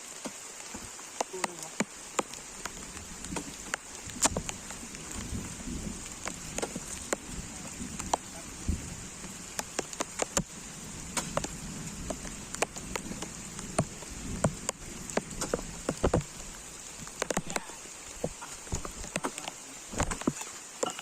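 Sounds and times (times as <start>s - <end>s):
rain hiss: 0.0s - 21.0s
raindrops tapping: 0.0s - 21.0s.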